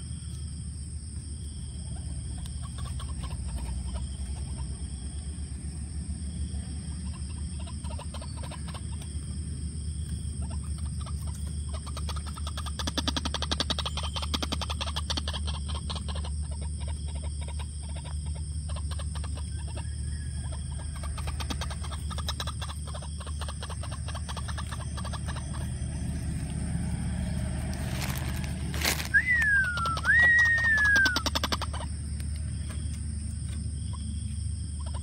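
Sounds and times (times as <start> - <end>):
steady low hum: 0.0 - 35.0
bird clucking calls: 1.6 - 5.3, 6.8 - 35.0.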